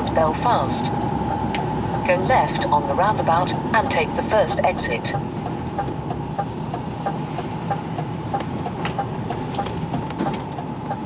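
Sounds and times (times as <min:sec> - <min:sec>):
truck engine and road noise: 0:00.0 - 0:11.0
turn indicator ticking: 0:00.9 - 0:11.0.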